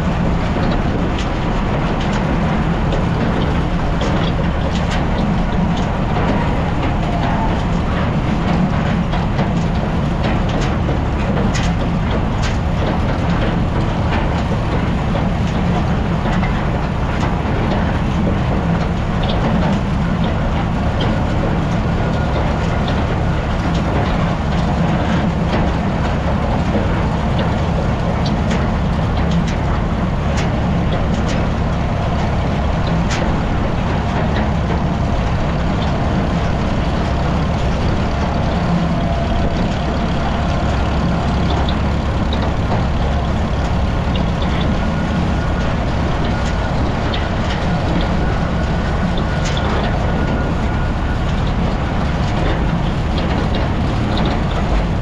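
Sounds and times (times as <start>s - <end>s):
clanks and rattles: 0.0s - 55.0s
tractor engine running: 0.0s - 55.0s.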